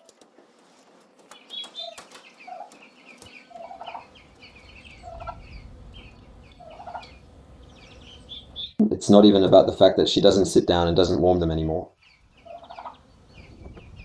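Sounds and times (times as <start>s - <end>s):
chicks peeping: 0.9s - 9.9s, 11.0s - 14.0s.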